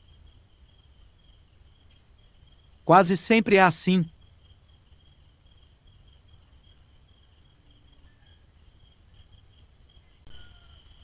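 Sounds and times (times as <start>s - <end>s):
insects trilling: 0.0s - 11.0s
low background hiss: 0.0s - 11.0s.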